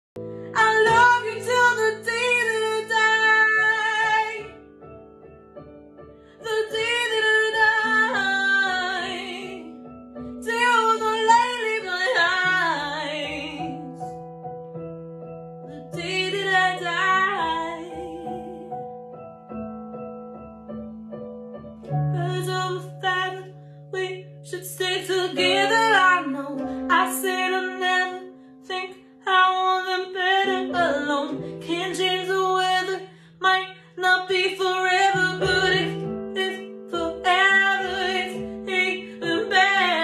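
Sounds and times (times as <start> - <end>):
held keyboard chords: 0.2 - 40.0
woman singing: 0.4 - 4.7, 6.4 - 14.2, 15.7 - 19.0, 21.9 - 40.0.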